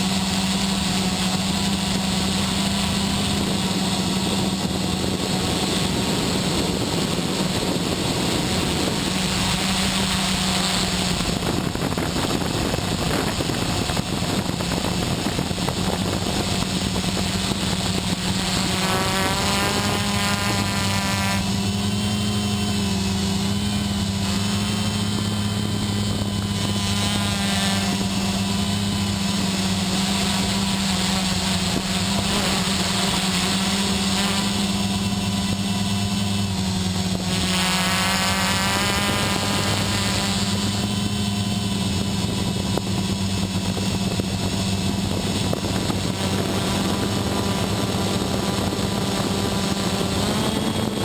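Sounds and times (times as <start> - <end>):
quadcopter motors and propellers: 0.0 - 51.0.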